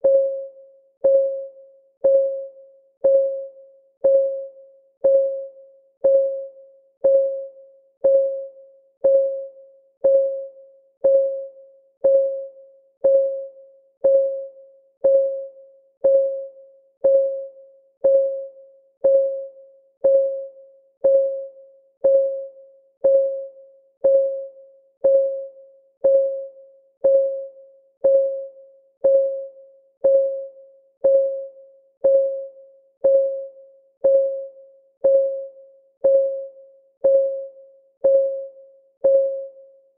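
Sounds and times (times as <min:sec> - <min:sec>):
timer ticking: 0:01.0 - 0:39.5.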